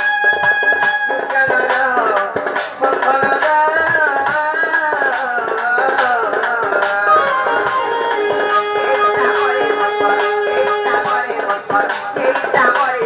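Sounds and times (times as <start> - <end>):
hand drums beating: 0.0 - 13.0.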